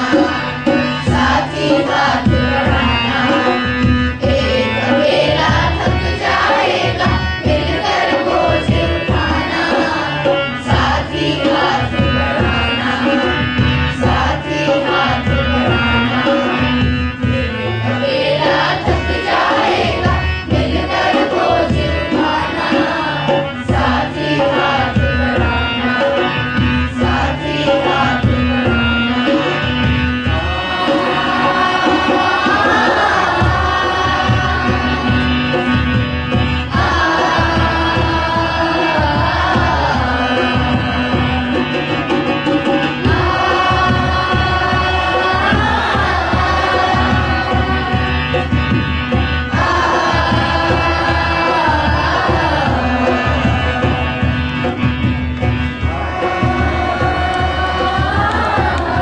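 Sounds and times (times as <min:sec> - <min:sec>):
children singing in chorus: 0:00.0 - 0:59.0
regular drum beat: 0:00.0 - 0:59.0.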